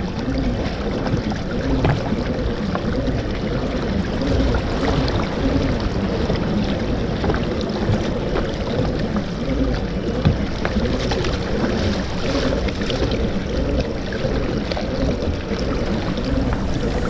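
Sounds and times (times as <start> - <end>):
water splashing and lapping: 0.0 - 17.0.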